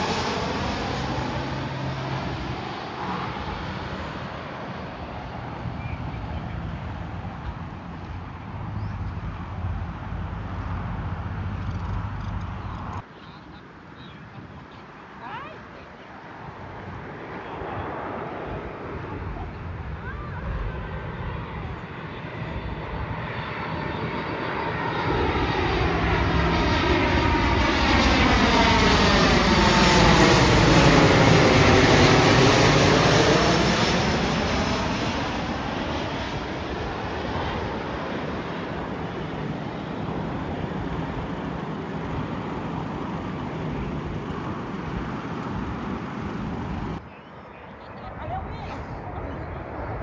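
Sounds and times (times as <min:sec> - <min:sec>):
jet airliner passing overhead: 0:00.0 - 0:12.2, 0:12.8 - 0:50.0.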